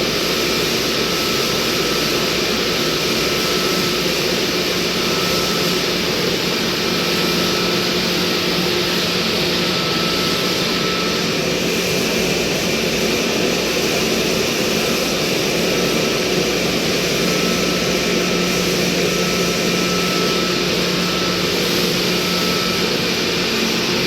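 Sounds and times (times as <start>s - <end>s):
faint high whine: 0.1s - 24.0s.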